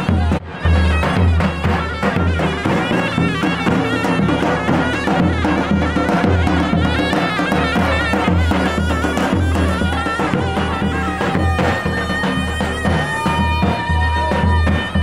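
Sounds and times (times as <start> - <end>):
deep drum beats: 0.0 - 15.0
shrill reedy pipe melody: 0.0 - 15.0.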